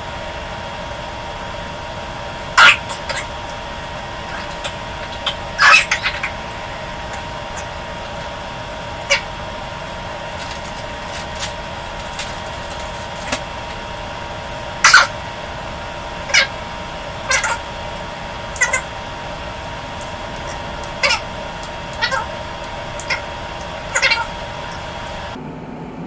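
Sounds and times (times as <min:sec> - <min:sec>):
background hum: 0:00.0 - 0:26.0.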